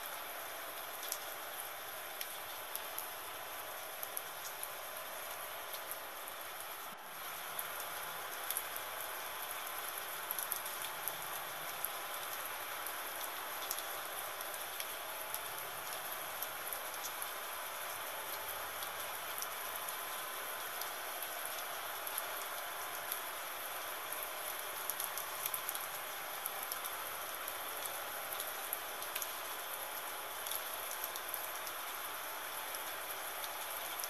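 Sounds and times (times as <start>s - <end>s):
gentle rain falling: 0.0s - 34.0s.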